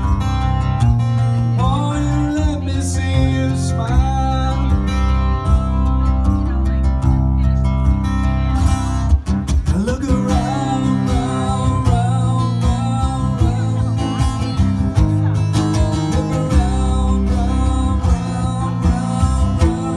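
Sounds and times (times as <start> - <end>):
solo guitar through pa: 0.0 - 19.9.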